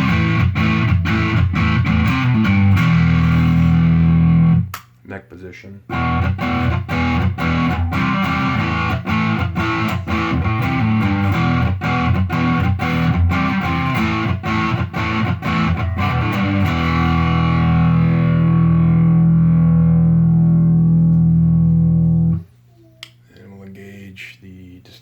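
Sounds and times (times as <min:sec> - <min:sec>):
electric guitar riff: 0:00.0 - 0:04.7, 0:05.9 - 0:22.4.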